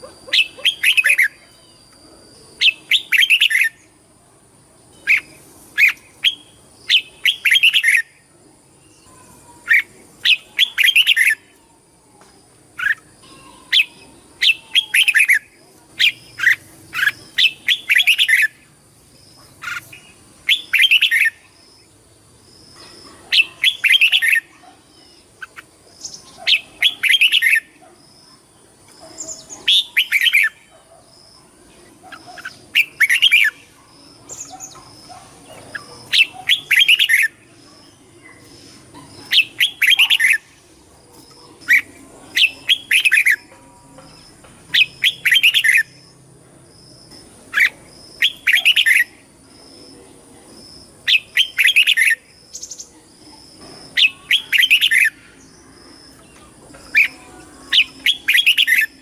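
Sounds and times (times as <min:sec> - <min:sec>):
bulbul singing: 0:00.0 - 0:04.0, 0:04.9 - 0:59.0.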